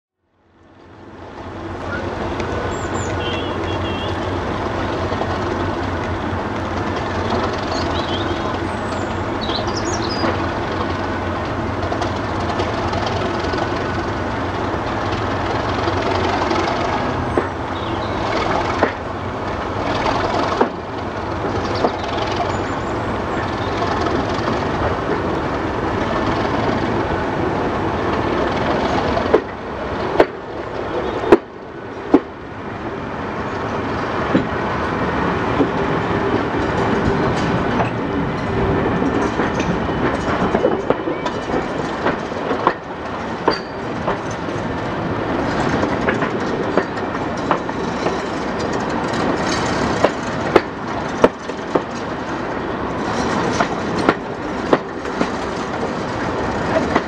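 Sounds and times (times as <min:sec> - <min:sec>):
diesel locomotive engine: 0:00.3 - 0:57.0
train wheels on rails: 0:00.6 - 0:57.0
wheels clacking over track: 0:01.8 - 0:32.4, 0:33.7 - 0:57.0.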